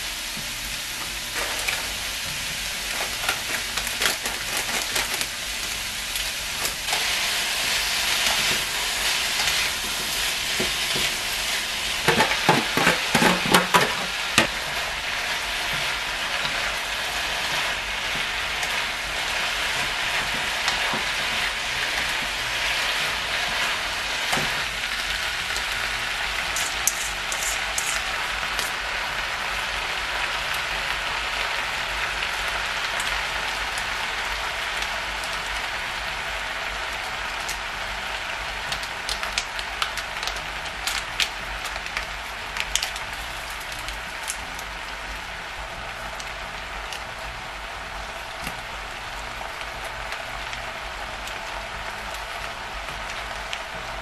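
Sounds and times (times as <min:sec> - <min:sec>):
stir-fry sizzling in a wok: 0:00.0 - 0:54.0.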